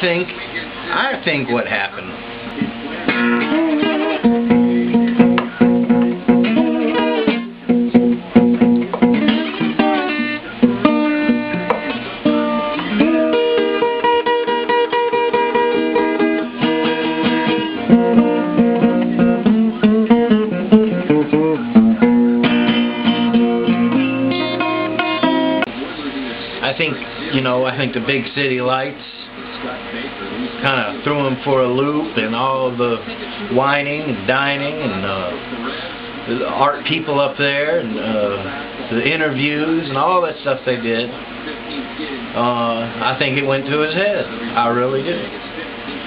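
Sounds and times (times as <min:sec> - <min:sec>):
guitar plucked and strummed: 0:00.3 - 0:46.0.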